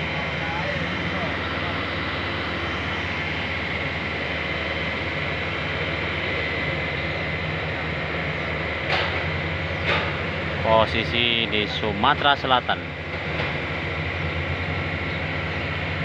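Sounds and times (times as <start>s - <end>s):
diesel machinery engine drone: 0.0s - 16.0s
high whine: 0.0s - 16.0s.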